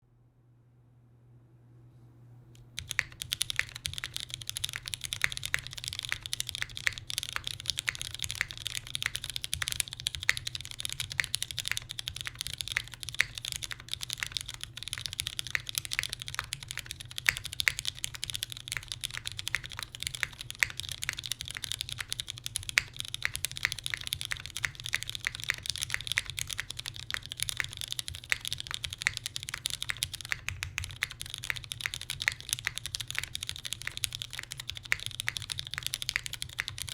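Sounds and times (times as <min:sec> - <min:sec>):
mechanical keyboard typing: 0:02.6 - 0:36.9.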